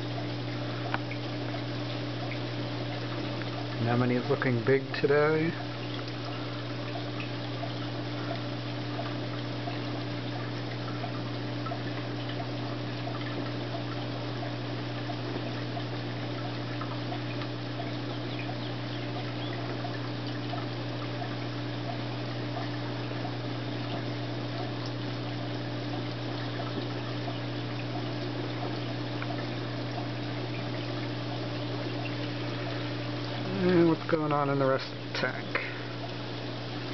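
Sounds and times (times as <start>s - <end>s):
low pump hum: 0.0s - 36.9s
water trickling and splashing: 0.0s - 36.9s.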